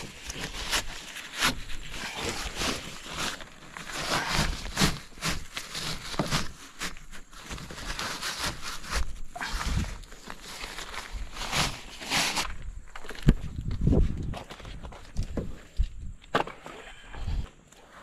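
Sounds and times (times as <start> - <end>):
plastic tarp rustling and scraping: 0.0 - 15.6.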